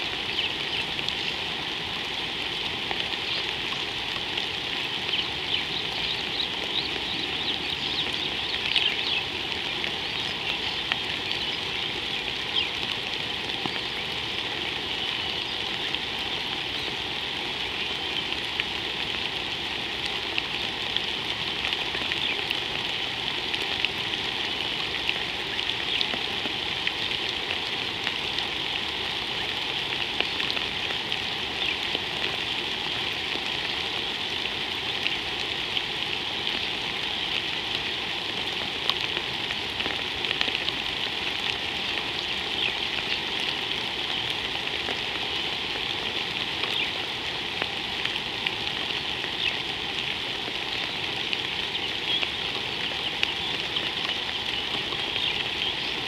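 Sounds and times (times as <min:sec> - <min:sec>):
raindrops ticking: 0:00.0 - 0:56.0
steady rain falling: 0:00.0 - 0:56.0.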